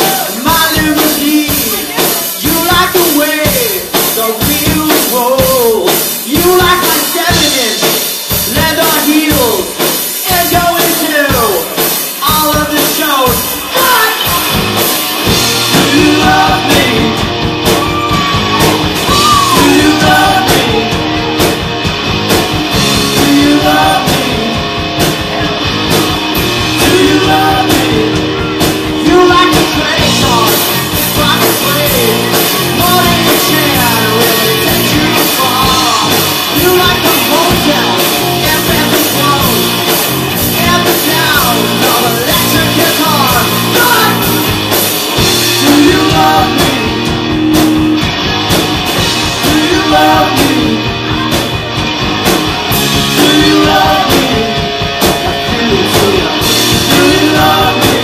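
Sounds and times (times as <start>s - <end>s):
lead singer: 0.0s - 58.0s
live rock band playing: 0.0s - 58.0s.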